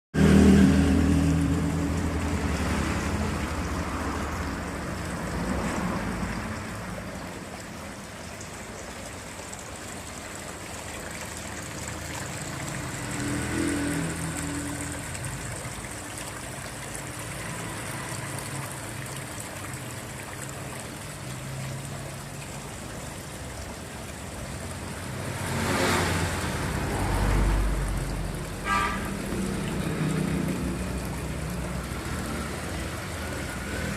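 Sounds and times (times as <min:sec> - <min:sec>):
vehicles passing: 0:00.2 - 0:33.9
water trickling over waterfall: 0:00.2 - 0:33.9.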